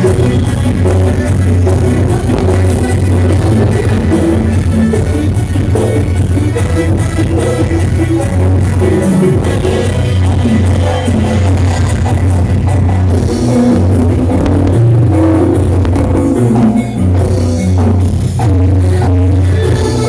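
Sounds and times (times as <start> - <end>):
heavy bass: 0.0 - 20.0
live dance music: 0.0 - 20.0.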